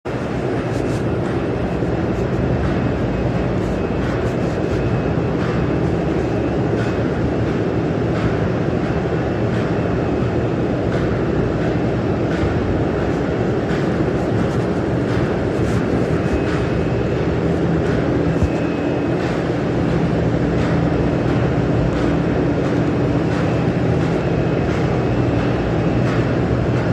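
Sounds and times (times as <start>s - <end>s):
mechanical rumble with low hum: 0.0s - 26.9s.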